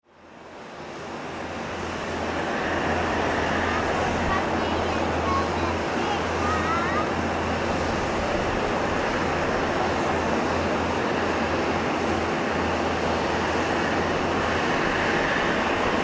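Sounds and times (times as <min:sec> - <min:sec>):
jet airliner roar: 0:00.3 - 0:16.0.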